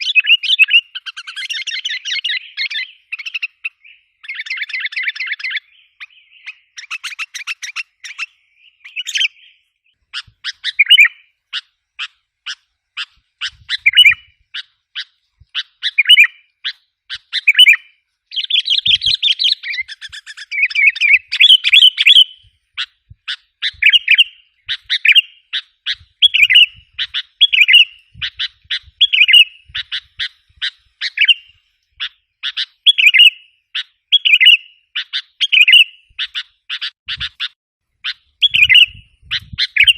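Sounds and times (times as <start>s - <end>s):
bulbul chirping and chattering: 0.0s - 39.9s.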